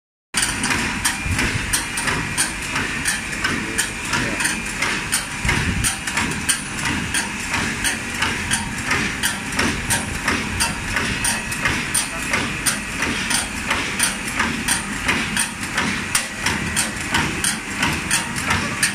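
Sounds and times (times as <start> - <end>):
machine mechanical hum: 0.4 - 18.9.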